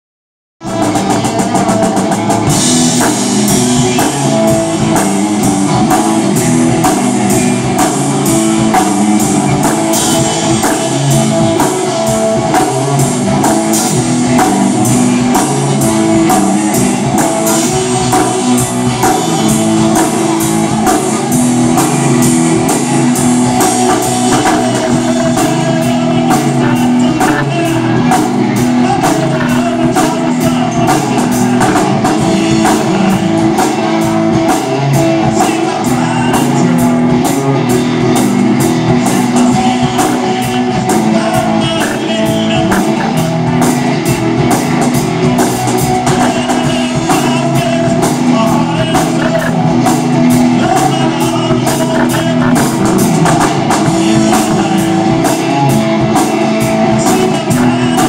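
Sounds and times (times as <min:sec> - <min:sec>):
drum kit: 0:00.6 - 0:58.0
electric guitar: 0:00.6 - 0:58.0.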